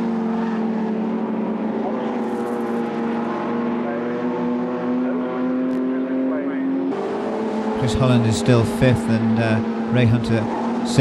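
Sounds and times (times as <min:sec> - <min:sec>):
cars passing: 0:00.0 - 0:11.0
racing car engine high revs: 0:00.0 - 0:11.0.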